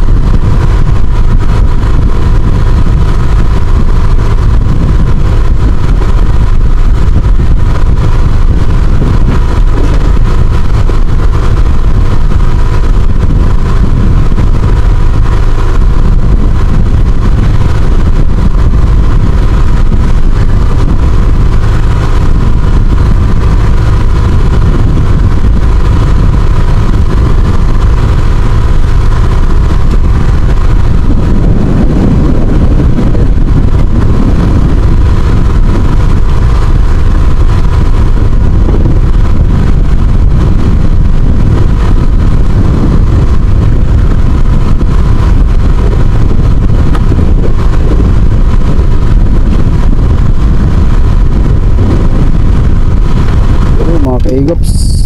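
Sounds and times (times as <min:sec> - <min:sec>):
boat motor droning: 0:00.0 - 0:55.0.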